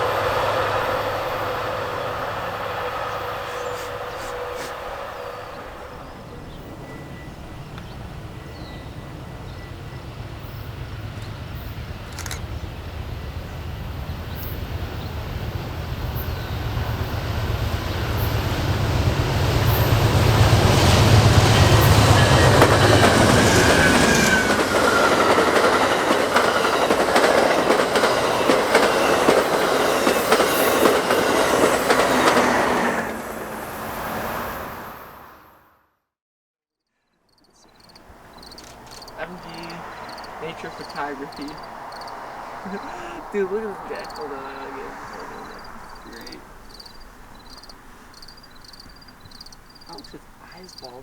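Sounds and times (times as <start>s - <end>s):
wheels clacking over rail joints: 0.0s - 34.7s, 37.8s - 51.0s
diesel locomotive engine rumble: 0.0s - 35.4s, 37.5s - 51.0s.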